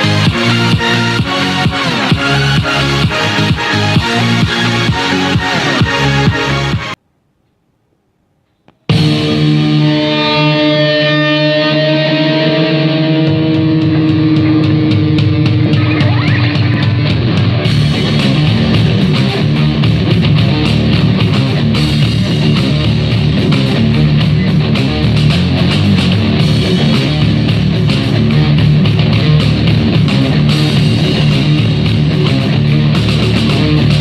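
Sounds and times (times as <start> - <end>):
heavy rock music on speaker: 0.0 - 7.0, 8.9 - 34.0.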